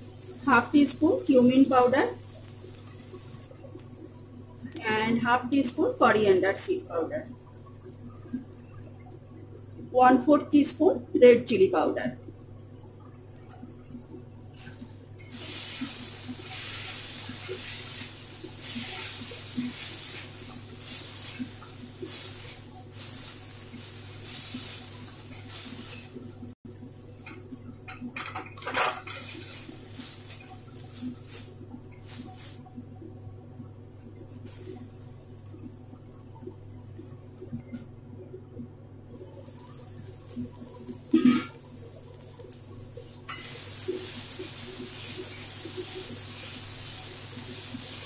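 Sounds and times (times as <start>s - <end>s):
food sizzling: 0.0s - 37.9s, 39.1s - 48.0s.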